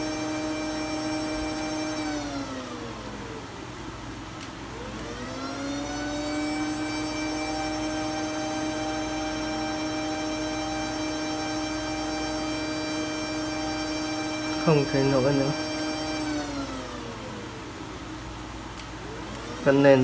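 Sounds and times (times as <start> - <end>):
cooling fan spinning: 0.0 - 20.0.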